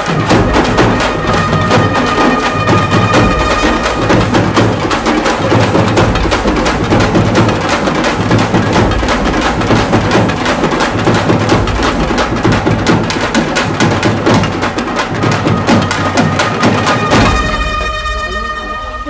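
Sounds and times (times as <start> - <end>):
music with fast percussion beat: 0.0 - 19.0.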